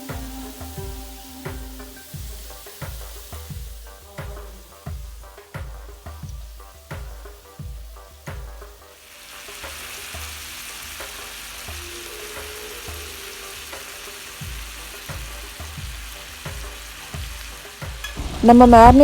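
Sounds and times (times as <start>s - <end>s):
background music beat: 0.0s - 19.0s
meat sizzling in a pan: 0.0s - 19.0s.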